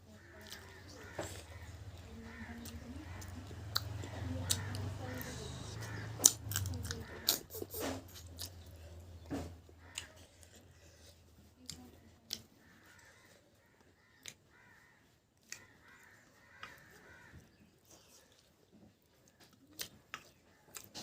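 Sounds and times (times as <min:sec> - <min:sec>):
faint calls: 0:00.0 - 0:11.2, 0:12.5 - 0:18.4
chewing clicks and smacks: 0:00.3 - 0:21.0.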